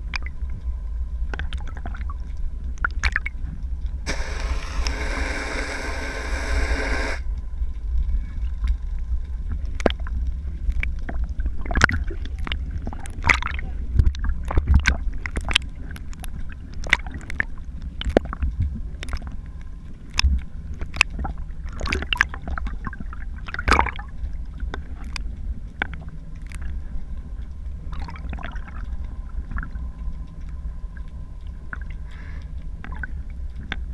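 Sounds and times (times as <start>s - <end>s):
faint steady hum: 0.0s - 33.9s
low rumble of moving water: 0.0s - 33.9s.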